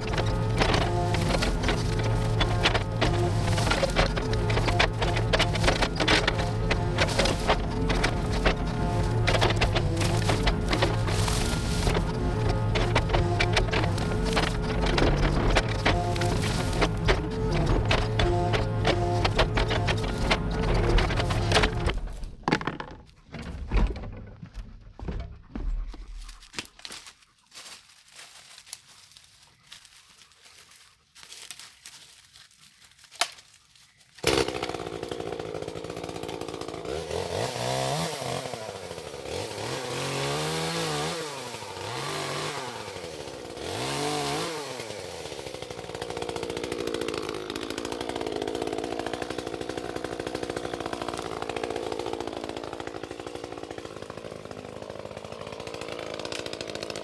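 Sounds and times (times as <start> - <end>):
chainsaw revving: 0.0 - 24.2, 34.2 - 57.0.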